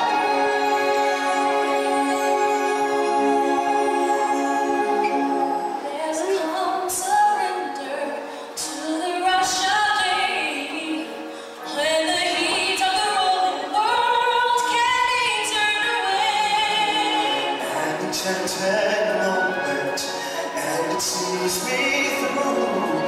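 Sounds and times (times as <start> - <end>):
live stage-show music: 0.0 - 23.0.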